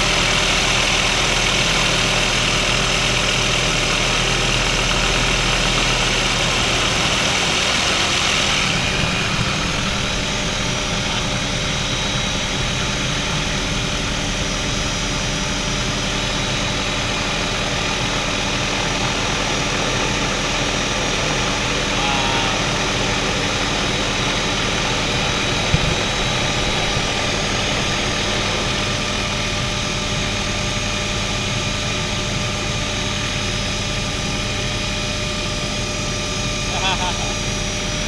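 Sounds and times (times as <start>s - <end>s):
helicopter turbine and rotor: 0.0s - 38.0s.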